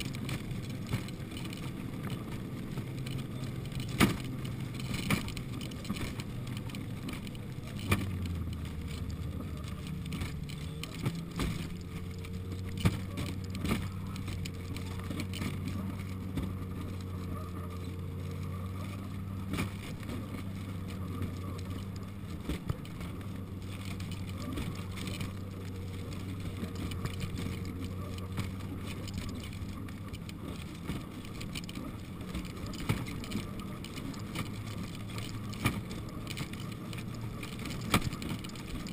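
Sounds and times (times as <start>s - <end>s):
snowmobile engine running: 0.0s - 38.9s
wooden box rattling and knocking: 0.0s - 38.9s.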